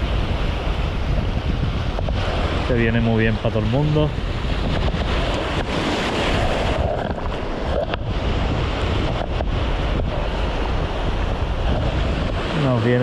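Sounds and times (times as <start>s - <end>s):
sea surf washing over rocks: 0.0s - 13.0s
wind buffeting microphone: 0.0s - 13.0s.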